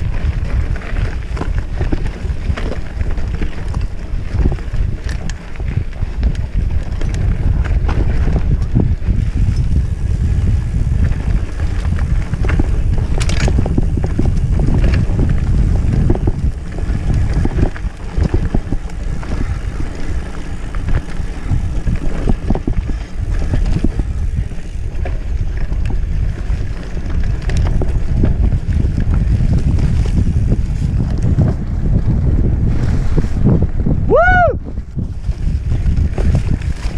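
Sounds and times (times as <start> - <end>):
bike rattling over bumps: 0.0 - 36.9
wind buffeting microphone: 0.0 - 36.9.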